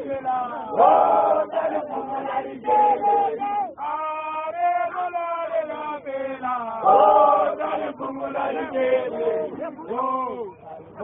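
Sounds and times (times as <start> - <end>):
men chanting: 0.0 - 10.6.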